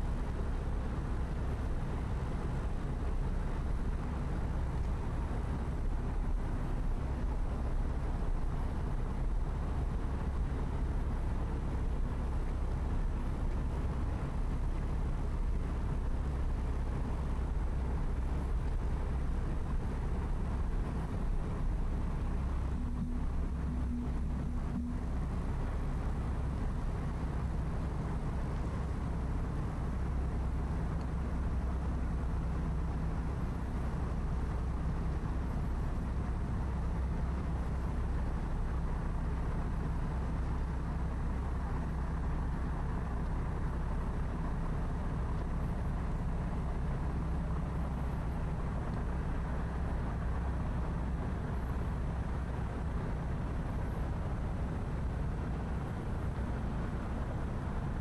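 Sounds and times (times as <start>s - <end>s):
constant low hum: 0.0s - 58.0s
distant city traffic drone: 0.0s - 58.0s.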